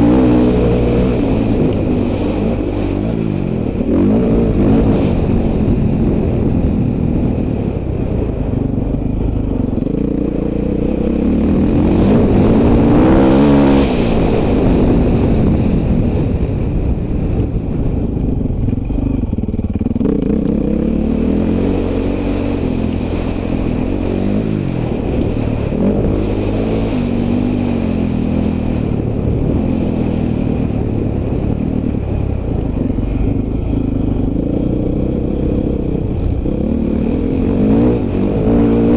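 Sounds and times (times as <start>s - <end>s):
motocross bike engine revving: 0.0s - 6.5s, 9.1s - 15.8s, 18.8s - 38.9s.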